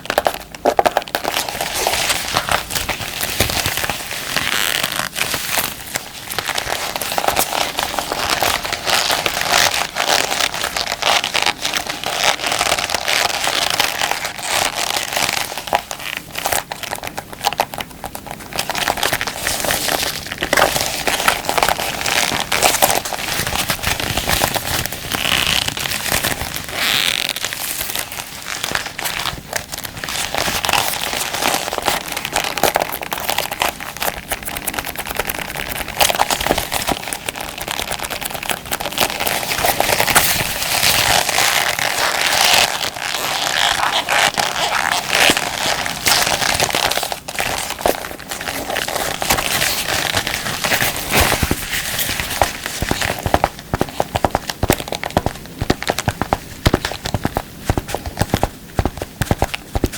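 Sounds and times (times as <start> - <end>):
gloves crinkling and crackling: 0.0 - 59.9.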